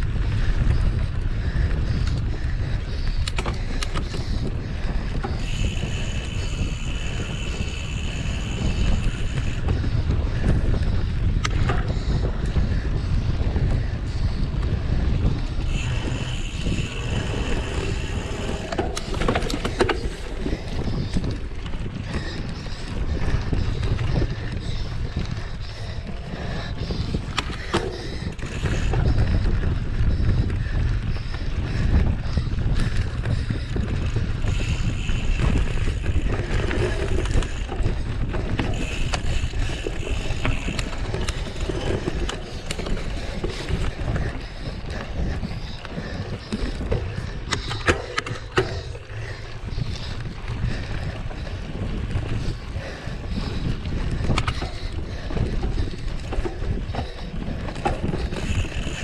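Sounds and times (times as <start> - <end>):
mountain bike rumble: 0.0 - 59.0
wind buffeting microphone: 0.0 - 59.0
bike knocking on bumps: 0.3 - 59.0.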